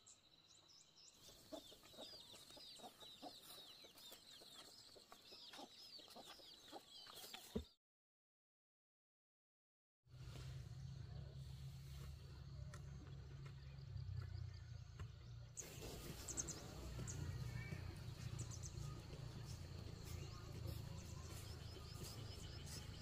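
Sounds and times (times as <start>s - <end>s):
birds chirping: 0.0s - 7.8s, 11.2s - 23.0s.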